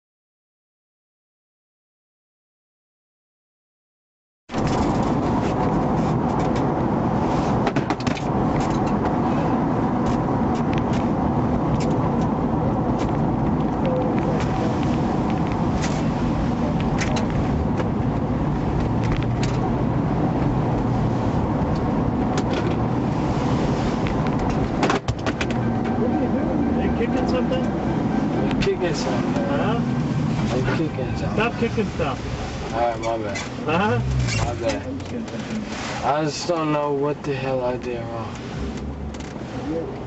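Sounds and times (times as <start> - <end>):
car engine and road noise: 4.5 - 40.0.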